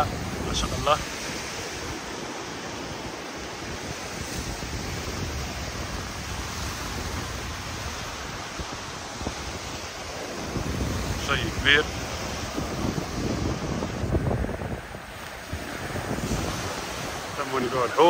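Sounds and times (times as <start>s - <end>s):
waves breaking on beach: 0.0s - 18.0s
wind on microphone: 0.0s - 18.0s.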